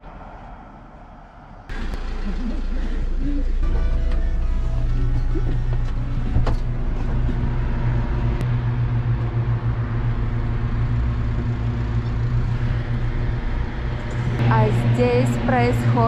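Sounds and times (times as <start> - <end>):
van engine humming: 0.0 - 16.0.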